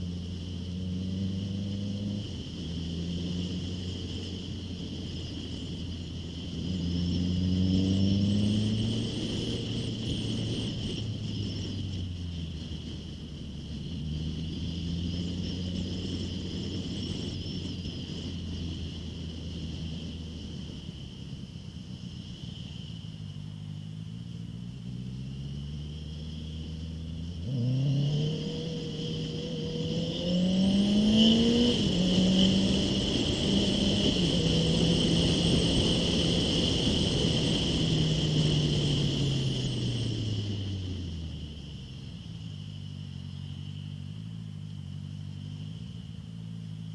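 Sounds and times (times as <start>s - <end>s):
motorcycle engine accelerating: 0.0s - 21.2s, 22.7s - 46.9s.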